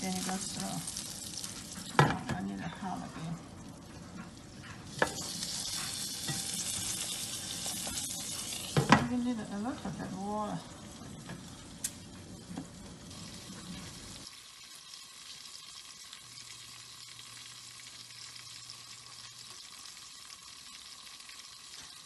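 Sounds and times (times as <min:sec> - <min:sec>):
pancakes sizzling in a pan: 0:00.0 - 0:22.0.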